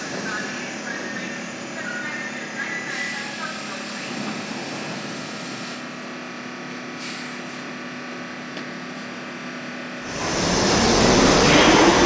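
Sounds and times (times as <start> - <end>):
subway train rumbling on track: 0.0 - 12.0.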